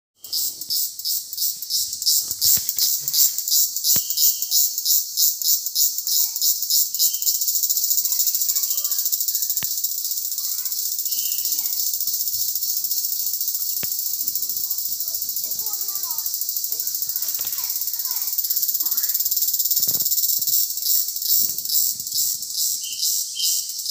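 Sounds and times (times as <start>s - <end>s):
insect buzzing: 0.2s - 23.9s.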